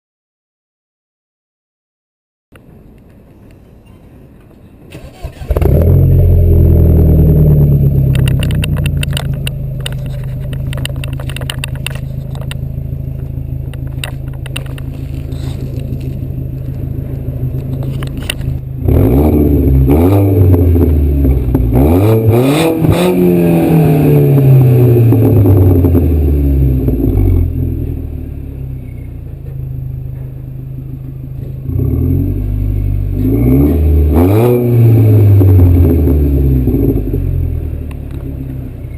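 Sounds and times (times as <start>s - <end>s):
car engine idling and revving: 4.3s - 38.9s.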